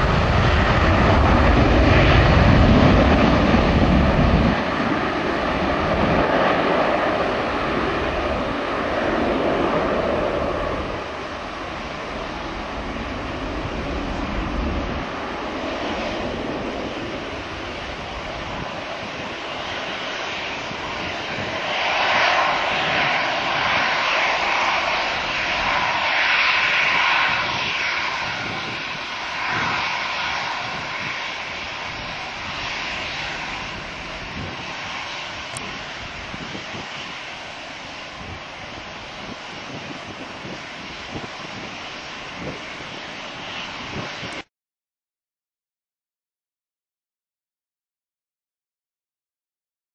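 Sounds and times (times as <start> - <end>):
jet airliner taking off: 0.0 - 44.5.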